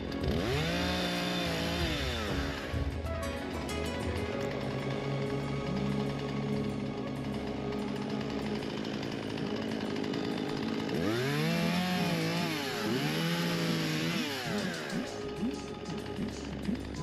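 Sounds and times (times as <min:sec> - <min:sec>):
background music: 0:00.0 - 0:17.0
chainsaw revving: 0:00.0 - 0:17.0.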